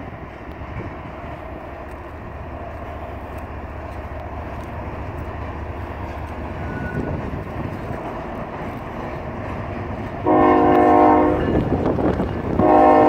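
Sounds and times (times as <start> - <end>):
diesel locomotives rumbling past: 0.0 - 13.0.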